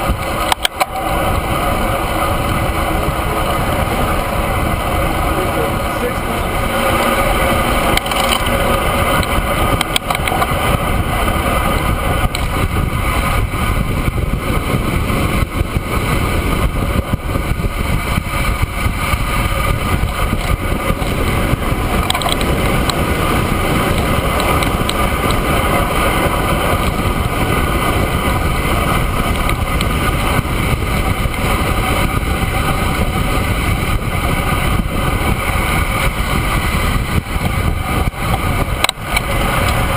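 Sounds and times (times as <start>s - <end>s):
bicycle tyre noise: 0.0s - 39.9s
wind rushing: 0.0s - 39.9s.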